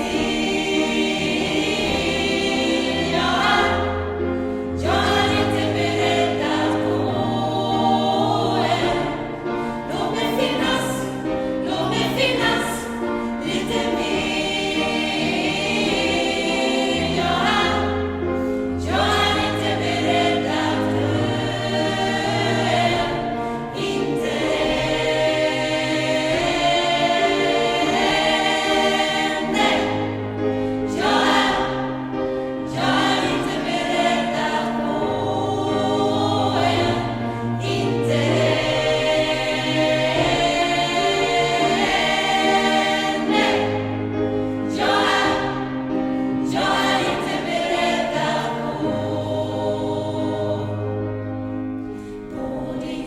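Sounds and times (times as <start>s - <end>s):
gospel choir singing: 0.0s - 53.0s
instrumental accompaniment: 0.0s - 53.0s.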